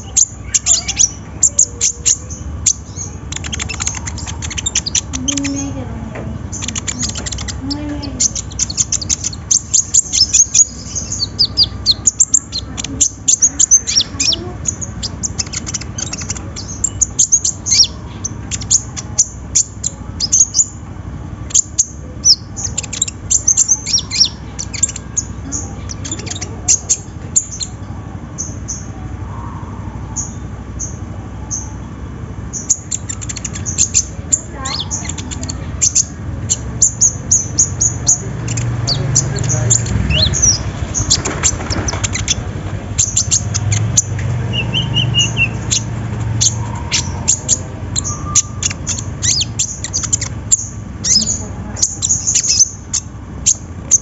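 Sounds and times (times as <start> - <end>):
bird high thin chirps and trills: 0.0 - 54.0.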